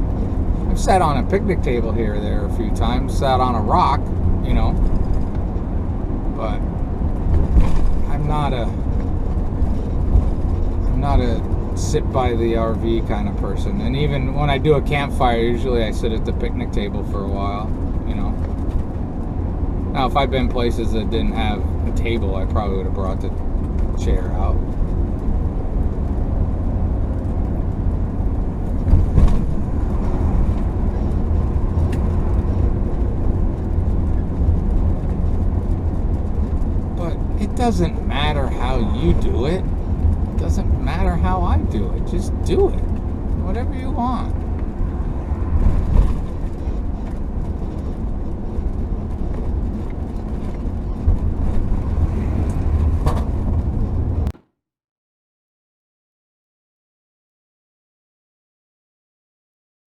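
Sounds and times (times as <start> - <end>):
vehicle bump: 0.0 - 54.4
road and engine rumble: 0.0 - 54.5.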